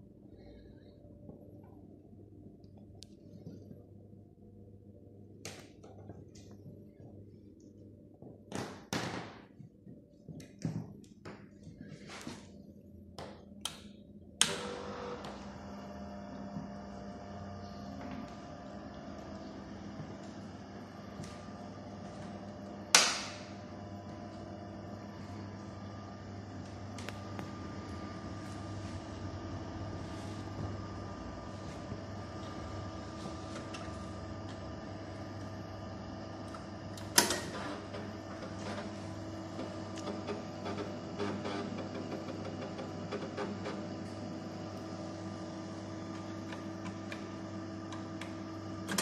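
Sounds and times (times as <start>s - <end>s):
computer electrical hum: 0.0s - 49.0s.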